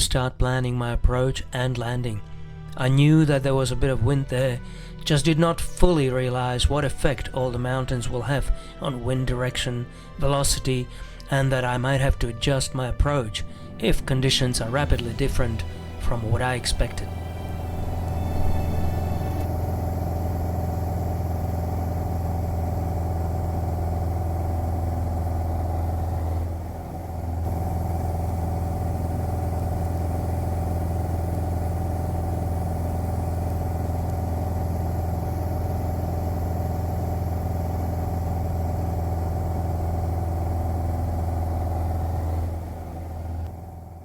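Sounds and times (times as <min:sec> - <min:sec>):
propeller aircraft engine droning: 0:06.5 - 0:44.0.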